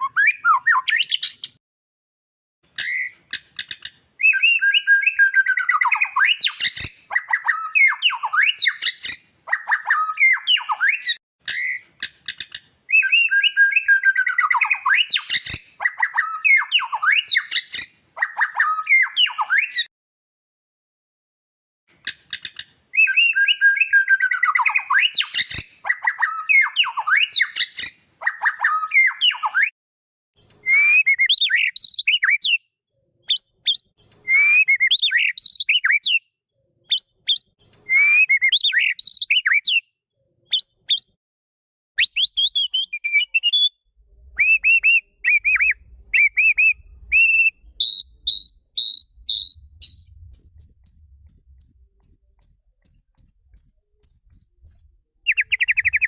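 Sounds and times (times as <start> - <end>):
bird song with whistled phrases: 0.0 - 1.6, 2.8 - 19.9, 22.1 - 29.8, 30.4 - 41.2, 42.0 - 56.0.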